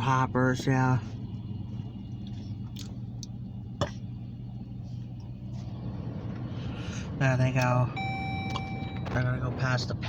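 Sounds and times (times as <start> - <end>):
diesel locomotive rumbling: 0.0 - 10.0.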